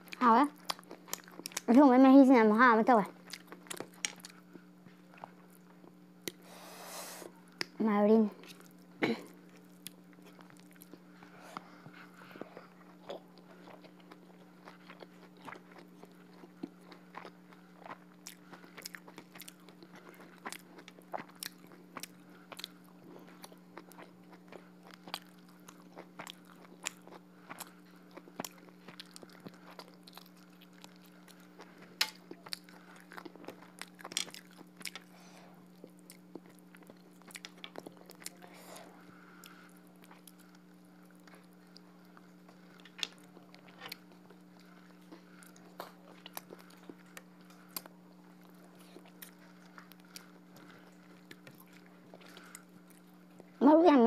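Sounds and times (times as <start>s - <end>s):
chewing and mouth sounds: 0.0s - 1.9s, 3.2s - 6.4s, 8.4s - 53.6s.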